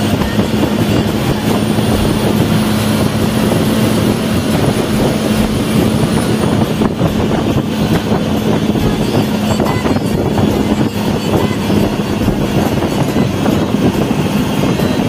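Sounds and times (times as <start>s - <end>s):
bus engine drone: 0.0s - 15.0s
low hum: 0.0s - 15.0s
road noise: 0.0s - 15.0s.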